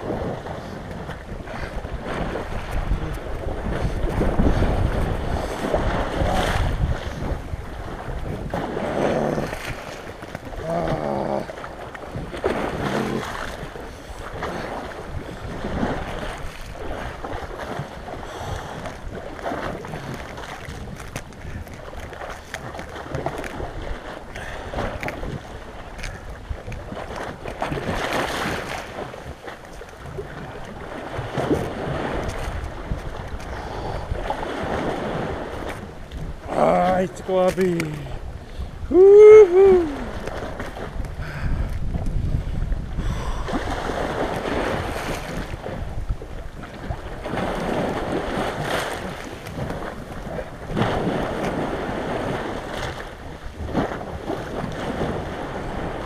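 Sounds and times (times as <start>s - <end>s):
small waves washing over slushy shore: 0.0s - 56.0s
wind buffeting microphone: 0.0s - 56.0s.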